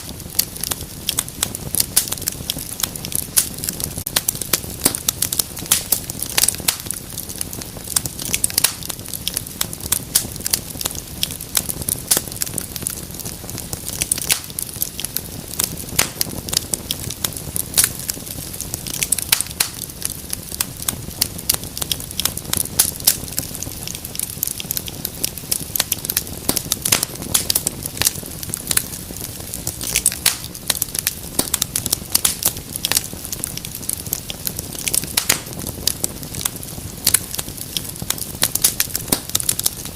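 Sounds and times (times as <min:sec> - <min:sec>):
low hiss of flames: 0:00.0 - 0:39.9
wood fire crackling: 0:00.0 - 0:39.9.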